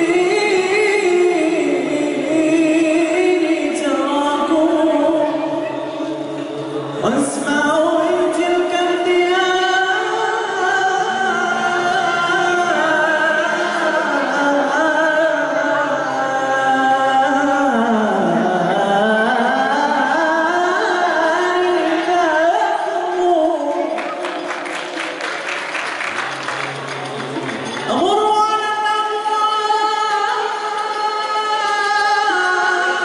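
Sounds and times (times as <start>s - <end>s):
man singing devotional hymn: 0.0s - 5.6s, 7.0s - 24.2s, 27.9s - 33.0s.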